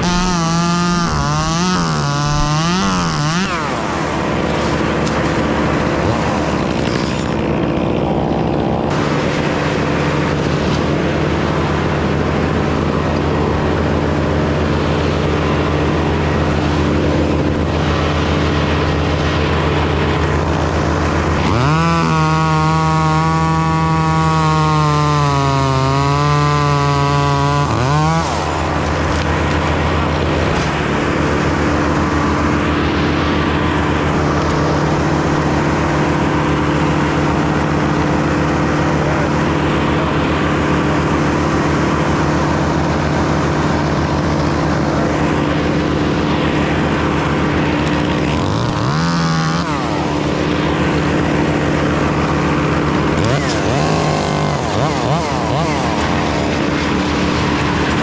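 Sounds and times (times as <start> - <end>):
chainsaw revving: 0.0 - 58.0
engine drone: 0.0 - 58.0.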